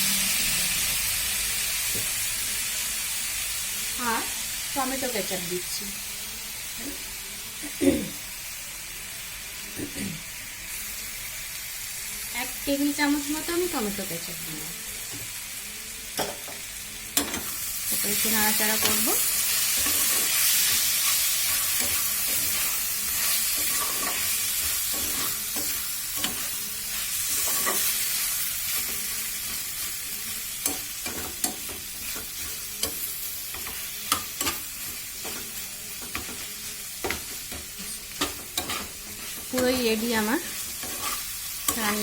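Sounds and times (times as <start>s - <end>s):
chicken sizzling in a pan: 0.0s - 42.0s.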